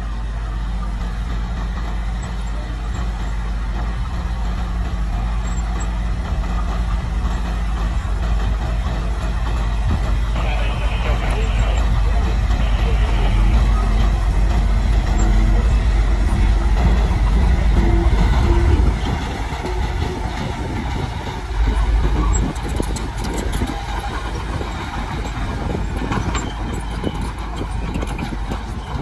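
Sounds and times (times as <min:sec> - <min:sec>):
bulldozer diesel engine rumbling: 0:00.0 - 0:29.0
bulldozer tracks rattling: 0:00.0 - 0:29.0.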